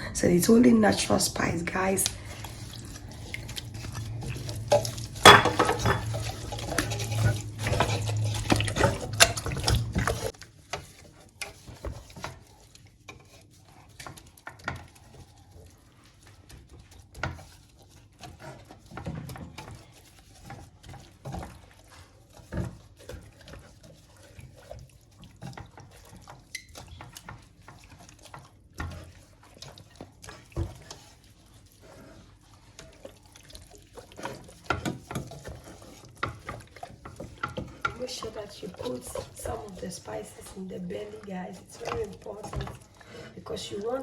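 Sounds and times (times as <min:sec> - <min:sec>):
hands rubbing wet paste into chicken: 0:00.5 - 0:44.0.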